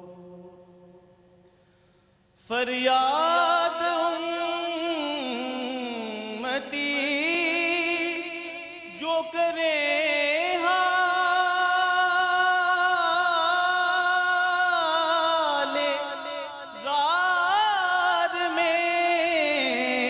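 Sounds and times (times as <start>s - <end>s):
man singing devotional song: 0.0s - 1.4s, 2.4s - 20.0s.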